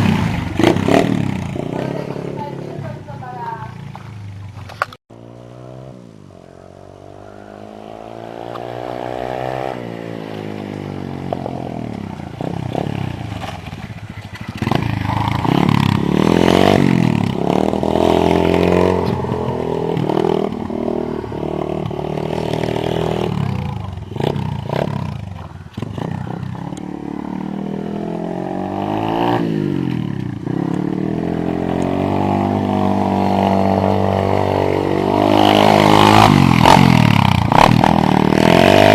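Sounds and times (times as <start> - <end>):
small motorbike engine revving: 5.2 - 38.9.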